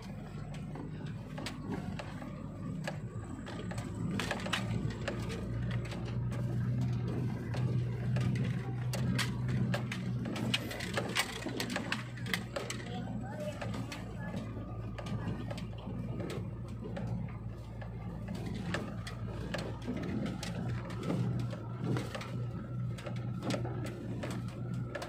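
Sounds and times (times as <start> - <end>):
vehicle clicks and rattles: 0.0 - 25.0
vehicle engine and road hum: 0.0 - 25.0.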